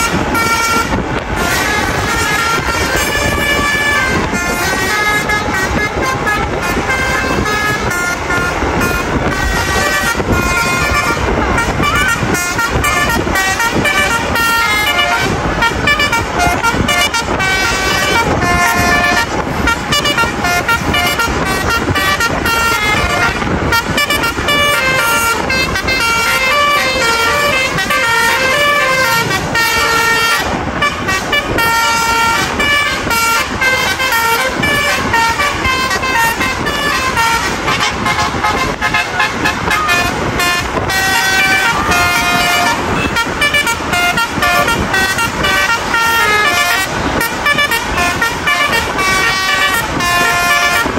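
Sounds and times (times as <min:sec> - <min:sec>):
bus engines running: 0:00.0 - 0:50.9
musical air horns melody: 0:00.0 - 0:50.9
road noise: 0:00.0 - 0:50.9.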